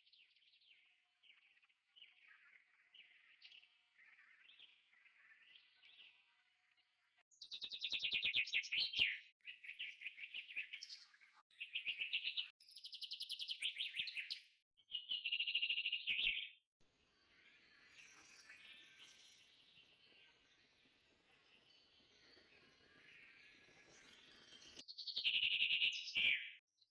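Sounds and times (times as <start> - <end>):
faint bird chirping: 0.0 - 26.9.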